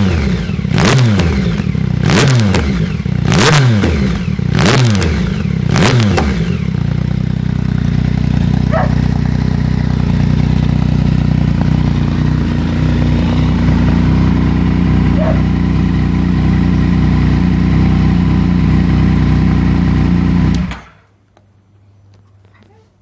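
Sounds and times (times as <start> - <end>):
motorcycle engine revving and idling: 0.0 - 21.1.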